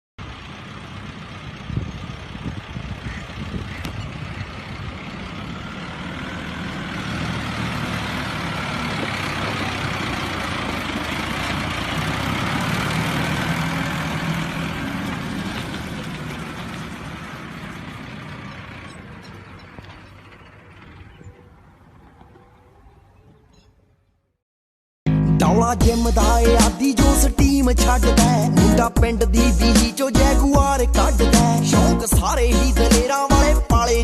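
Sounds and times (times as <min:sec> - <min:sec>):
tractor engine passing: 0:00.2 - 0:24.4, 0:25.1 - 0:34.0.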